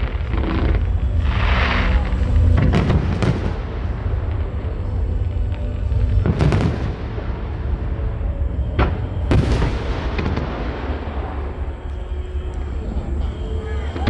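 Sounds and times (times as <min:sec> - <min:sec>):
fireworks bangs: 0:00.0 - 0:14.0
fireworks crackles: 0:00.0 - 0:14.0
low rumble of fireworks display: 0:00.0 - 0:14.0.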